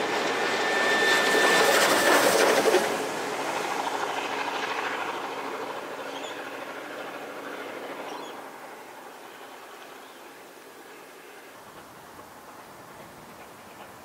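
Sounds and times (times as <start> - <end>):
steam train passing: 0.0 - 14.0.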